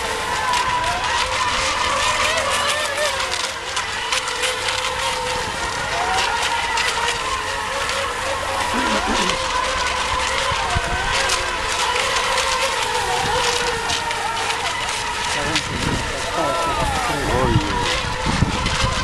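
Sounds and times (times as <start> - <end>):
hulls hissing on water: 0.0 - 19.0
model boat motors whining: 0.0 - 19.0.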